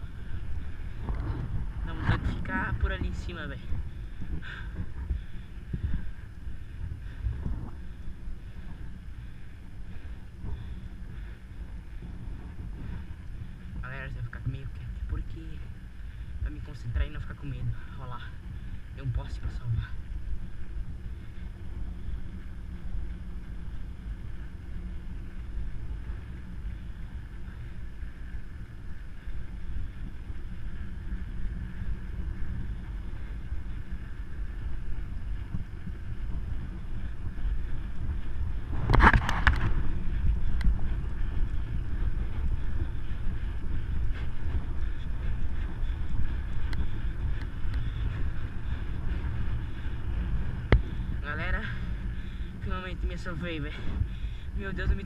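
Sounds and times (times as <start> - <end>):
bike rolling on road: 0.0 - 55.0
wind on microphone: 0.0 - 55.0.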